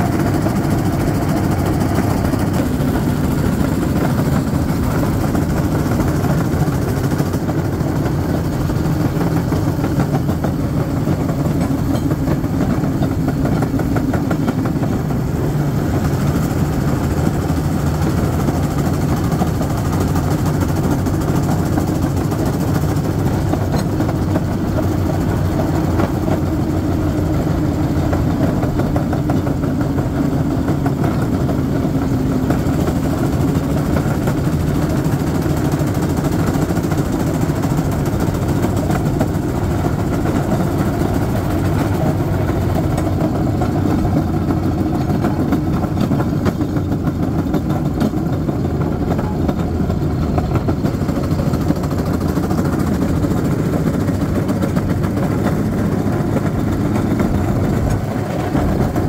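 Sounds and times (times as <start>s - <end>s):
railcart engine rumbling: 0.0s - 59.0s.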